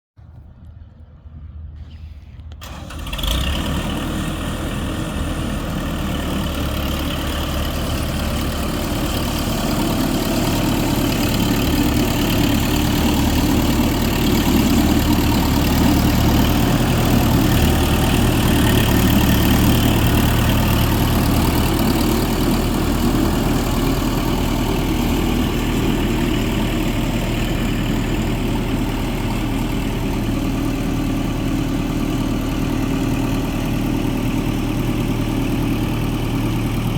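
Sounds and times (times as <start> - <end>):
tractor engine idling: 2.4 - 36.9.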